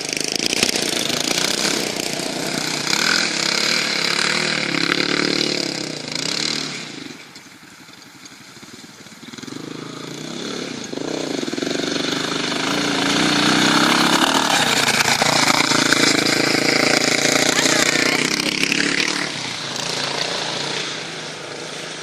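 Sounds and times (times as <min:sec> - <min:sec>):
buggy engine revving: 0:00.0 - 0:22.0.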